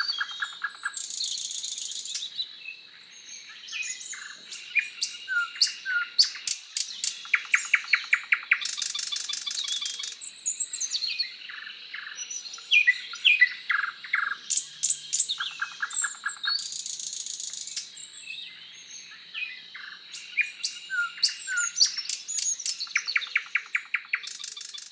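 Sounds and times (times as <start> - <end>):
songbirds chirping and singing: 0.0 - 24.9.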